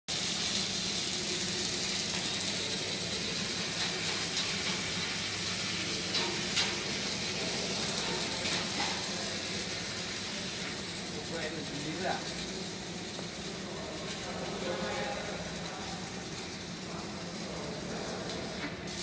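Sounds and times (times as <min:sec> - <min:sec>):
welding arc crackling and hissing: 0:00.1 - 0:19.0.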